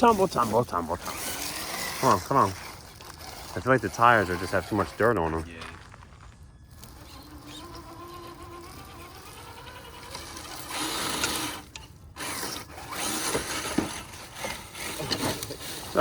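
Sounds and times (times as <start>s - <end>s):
electric motor and drivetrain whining: 0.0s - 16.0s
tires scrabbling on dirt: 0.0s - 16.0s.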